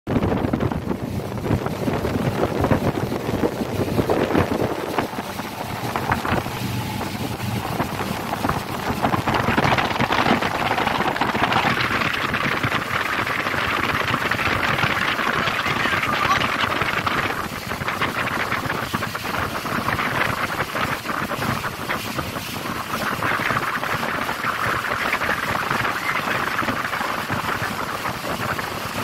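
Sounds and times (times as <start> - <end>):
motorboat engine: 0.1 - 29.0
rushing water of wake: 0.1 - 29.0
wind buffeting microphone: 0.1 - 29.0.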